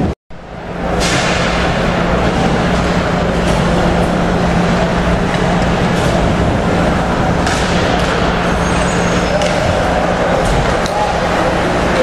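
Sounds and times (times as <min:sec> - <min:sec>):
steady hum: 0:00.0 - 0:12.0
ice rink crowd din: 0:00.5 - 0:12.0.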